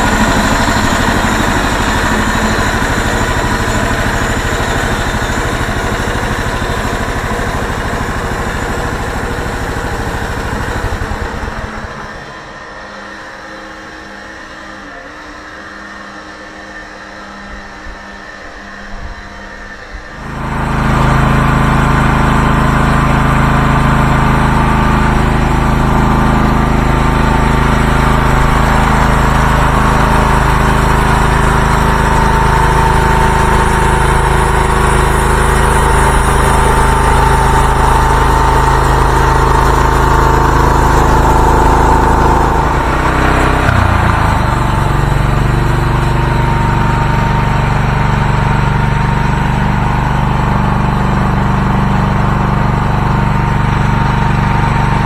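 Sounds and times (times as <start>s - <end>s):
high whine: 0.0s - 55.0s
sawmill engine running: 0.0s - 55.0s.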